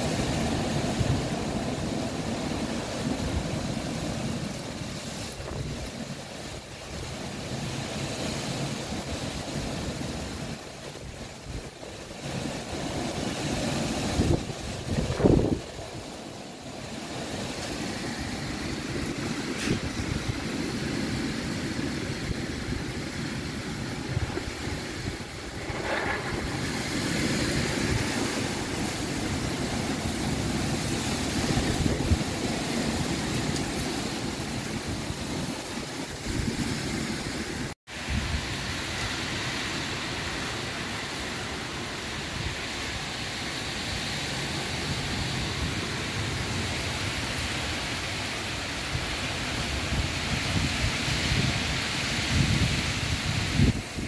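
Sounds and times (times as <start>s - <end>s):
wind buffeting the microphone: 0.0s - 16.4s, 17.3s - 39.5s, 44.8s - 54.0s
strong wind rushing through trees: 0.0s - 54.0s.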